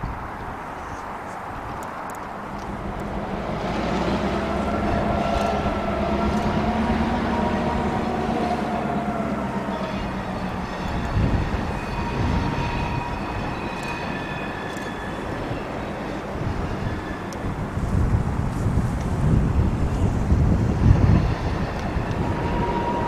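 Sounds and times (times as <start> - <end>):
diesel locomotive engine running: 2.1 - 23.0.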